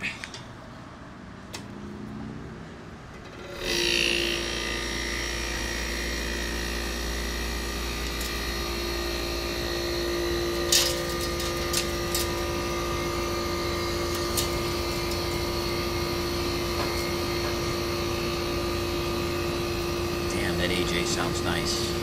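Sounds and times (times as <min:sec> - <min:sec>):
air conditioner humming: 0:00.0 - 0:22.0
steady tones: 0:02.8 - 0:22.0.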